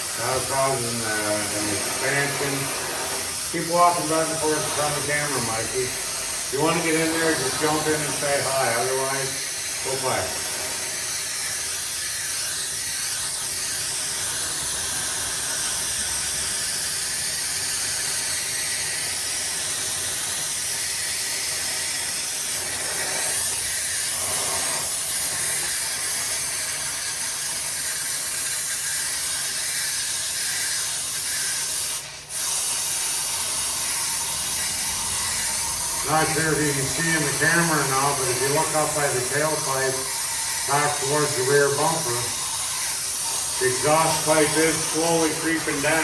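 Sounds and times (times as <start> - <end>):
gas torch flame hissing: 0.0 - 46.0.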